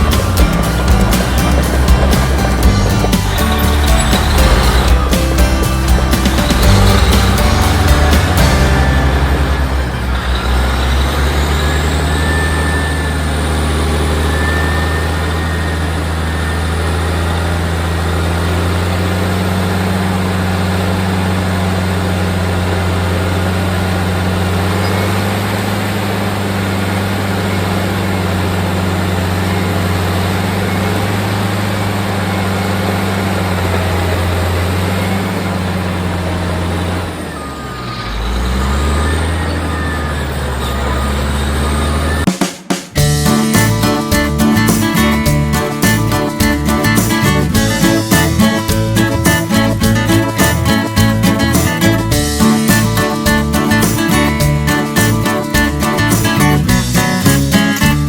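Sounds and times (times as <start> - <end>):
bulldozer diesel engine running: 0.0 - 42.4, 43.0 - 58.0.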